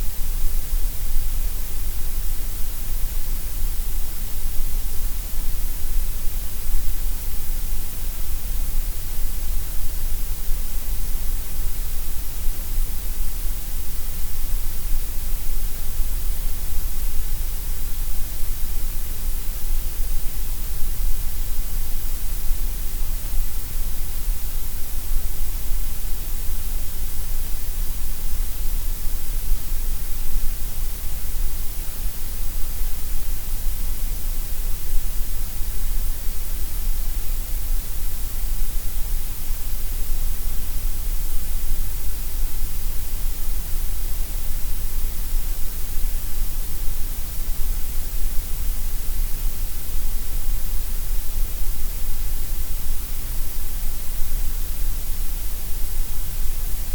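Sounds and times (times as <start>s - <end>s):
steady gray noise hiss: 0.0s - 56.9s.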